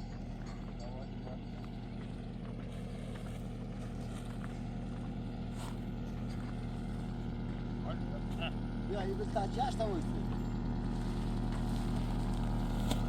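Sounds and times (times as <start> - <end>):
motor running steadily: 0.0 - 13.0.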